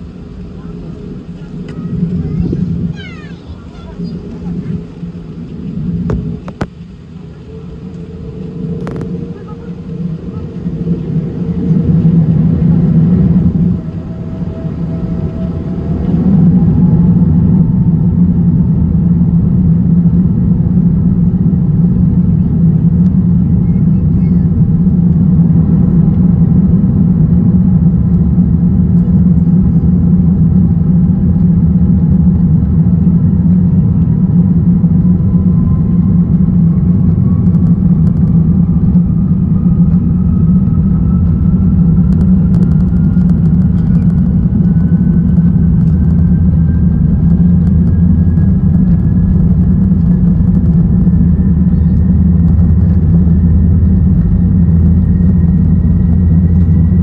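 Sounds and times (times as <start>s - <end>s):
aircraft engine rumble: 0.0s - 57.0s
faint engine whine: 0.0s - 57.0s.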